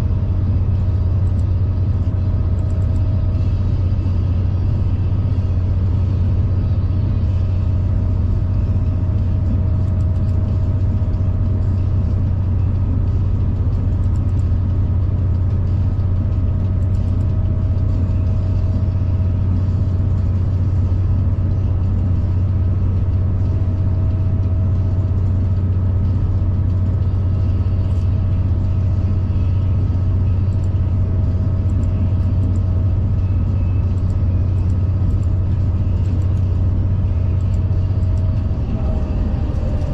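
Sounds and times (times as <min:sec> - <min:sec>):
train low drone: 0:00.0 - 0:39.9.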